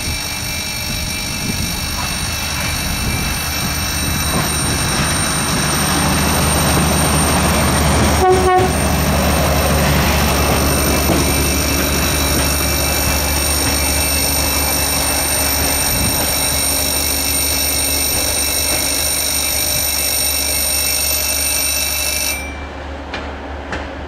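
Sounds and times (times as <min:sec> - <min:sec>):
level crossing warning bell: 0:00.0 - 0:22.9.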